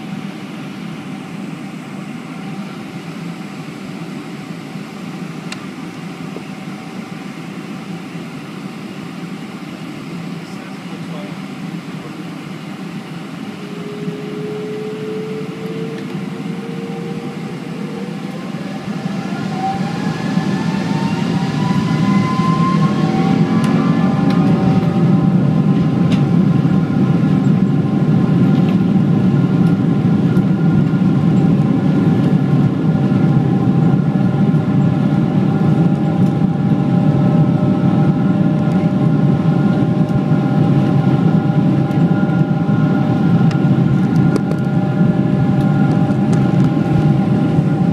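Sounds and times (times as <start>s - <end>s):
jet engines spooling up: 0.0s - 47.9s
low rumble of accelerating airliner: 0.0s - 47.9s.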